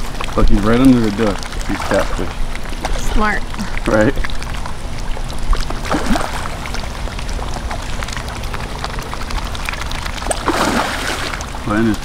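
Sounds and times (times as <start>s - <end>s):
water drips and pops: 0.0s - 12.0s
water pouring and splashing: 0.0s - 12.0s.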